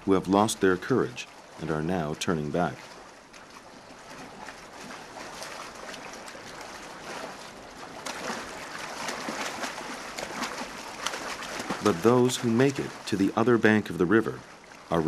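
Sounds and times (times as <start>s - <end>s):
animals splashing in water: 0.0s - 15.0s
river current rushing: 0.0s - 15.0s.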